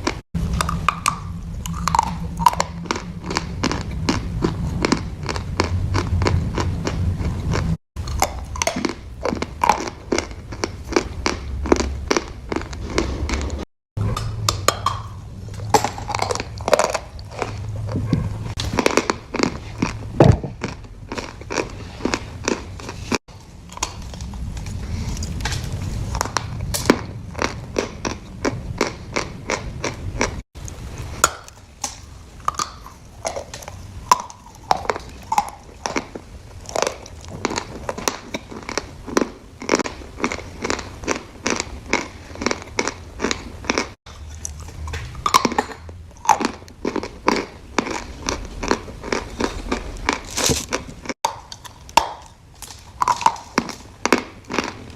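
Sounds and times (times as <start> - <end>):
person chewing crunchy food: 0.0 - 54.9.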